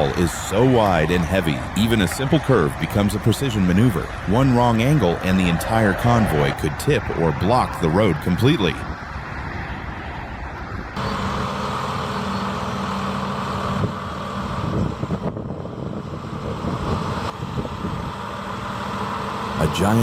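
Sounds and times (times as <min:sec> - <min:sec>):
heavy truck engines running: 0:00.0 - 0:20.0.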